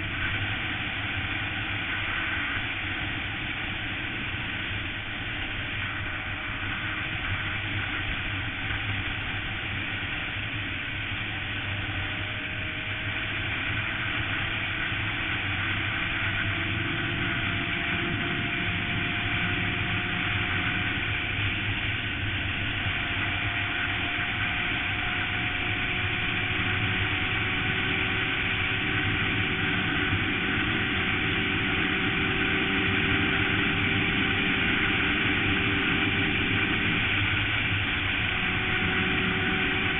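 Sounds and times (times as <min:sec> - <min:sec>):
motorcycle engine at speed: 0:00.0 - 0:39.9
wind and road noise: 0:00.0 - 0:39.9.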